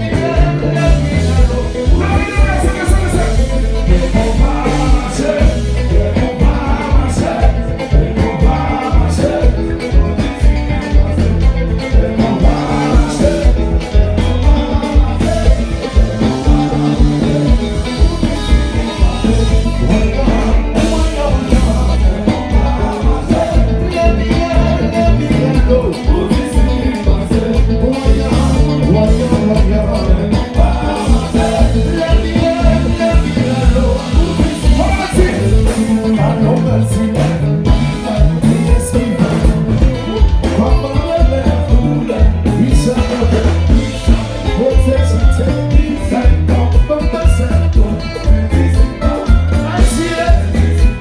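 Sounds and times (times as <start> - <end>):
live dance band music: 0.0 - 51.0
man singing into microphone: 0.0 - 51.0.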